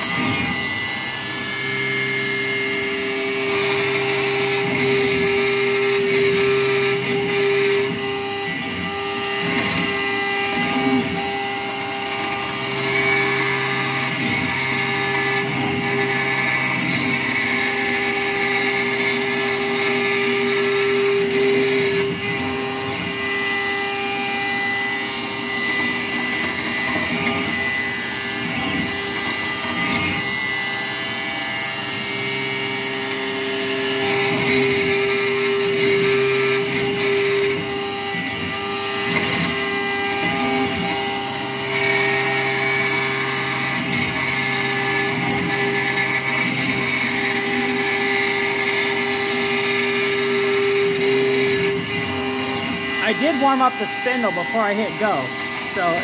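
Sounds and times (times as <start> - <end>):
mill cutting metal tone: 0.0 - 56.0.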